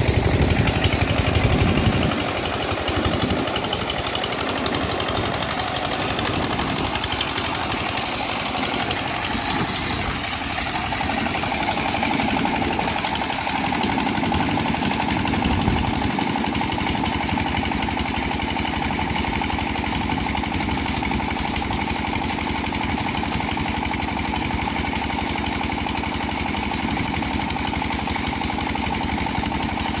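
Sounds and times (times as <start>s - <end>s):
diesel water pump engine running: 0.0s - 30.0s.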